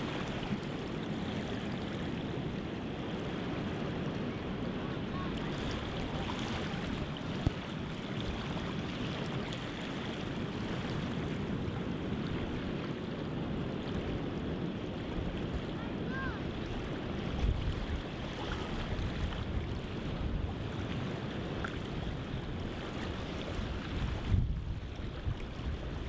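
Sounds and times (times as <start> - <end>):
sea water rushing around boat: 0.0 - 26.0.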